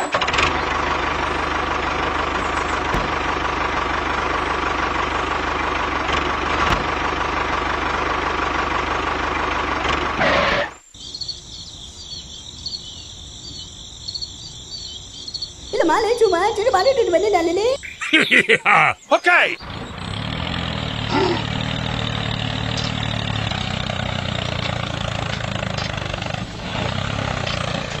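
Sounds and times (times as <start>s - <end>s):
tractor engine running: 0.0s - 28.0s
crickets chirping: 0.5s - 9.8s, 10.7s - 28.0s.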